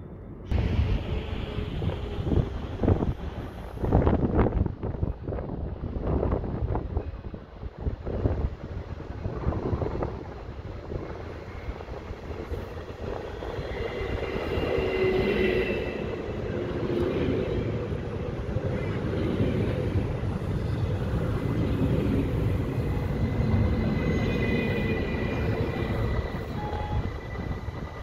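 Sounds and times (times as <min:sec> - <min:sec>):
train wheels rumbling on rails: 0:00.4 - 0:28.0.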